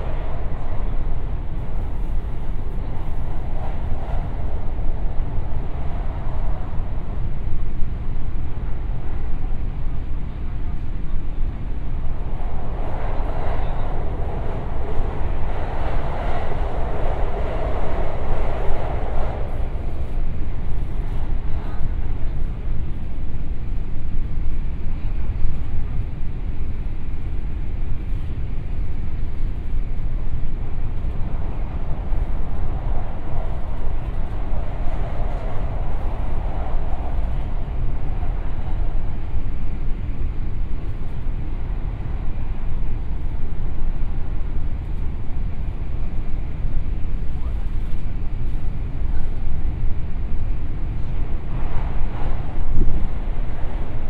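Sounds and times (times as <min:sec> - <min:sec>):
train wheels rumbling in tunnel: 0:00.0 - 0:54.0.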